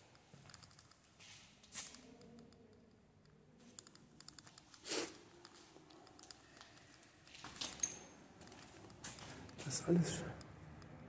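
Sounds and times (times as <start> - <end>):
faint clicks and crackles: 0.0 - 9.7.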